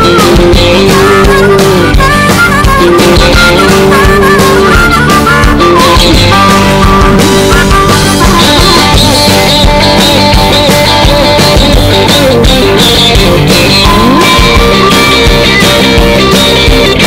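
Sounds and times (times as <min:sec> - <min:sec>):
rock song playing: 0:00.0 - 0:17.0.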